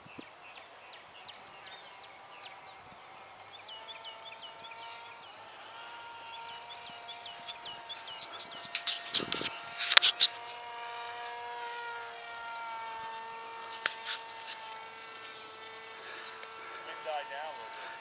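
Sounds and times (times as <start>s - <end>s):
model airplane motor whining: 0.0s - 18.0s.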